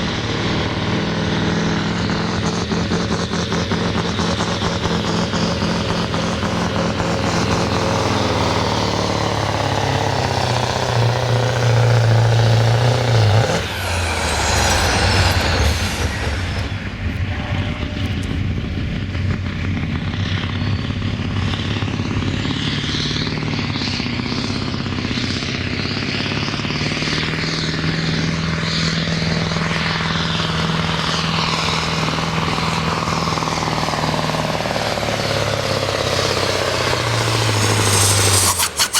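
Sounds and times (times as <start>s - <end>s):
diesel truck engine running hard: 0.0s - 38.9s.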